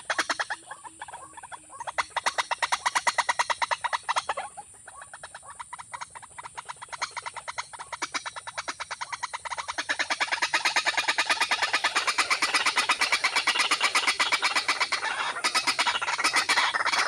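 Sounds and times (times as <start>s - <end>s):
pulsing rasping animal call: 0.0s - 17.0s.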